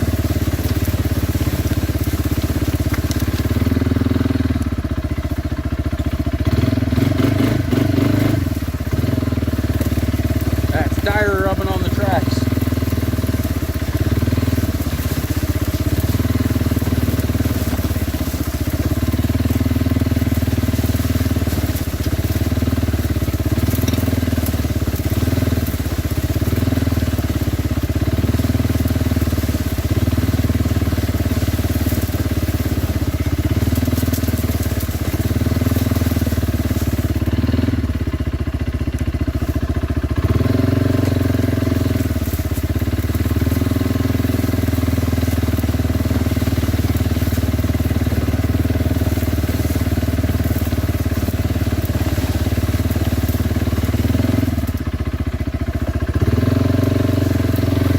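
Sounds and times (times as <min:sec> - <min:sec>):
four-stroke engine running: 0:00.0 - 0:57.9.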